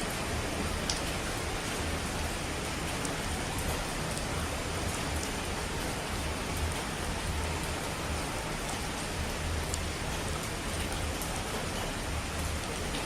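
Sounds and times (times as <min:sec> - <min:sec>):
falling water rushing: 0:00.0 - 0:13.0.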